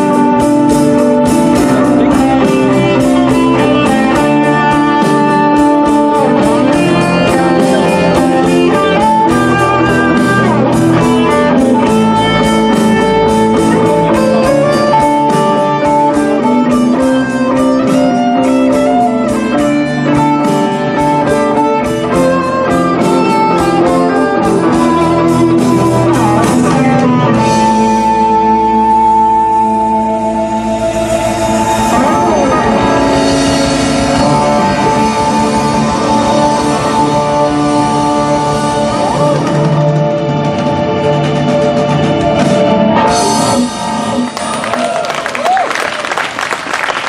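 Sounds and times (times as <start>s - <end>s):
held guitar chord ringing: 0.0s - 44.8s
electric guitar: 0.0s - 47.0s
live rock band: 0.0s - 47.0s.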